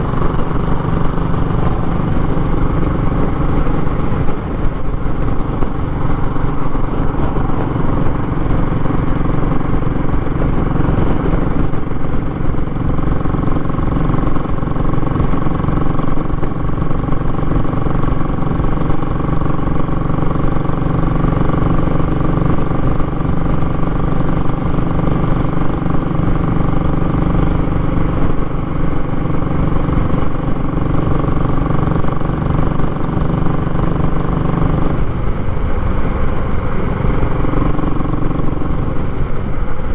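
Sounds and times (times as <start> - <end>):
single-cylinder motorcycle engine running: 0.0 - 39.9.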